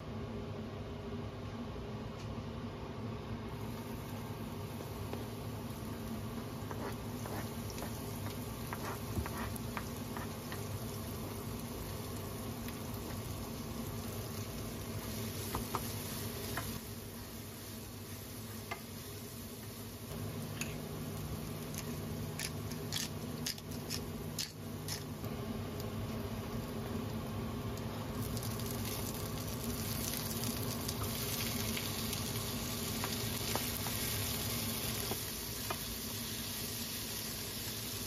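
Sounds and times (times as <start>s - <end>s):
food sizzling: 3.6s - 38.0s.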